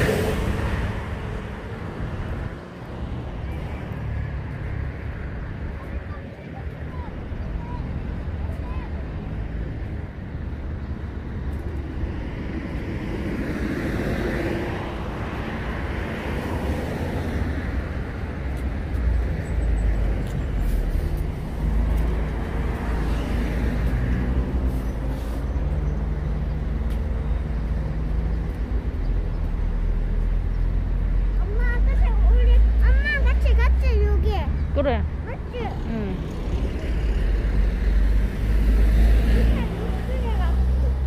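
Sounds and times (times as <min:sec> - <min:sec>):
passing traffic: 0:00.0 - 0:41.0
road noise: 0:00.0 - 0:41.0
vehicle engine rumble: 0:00.0 - 0:41.0.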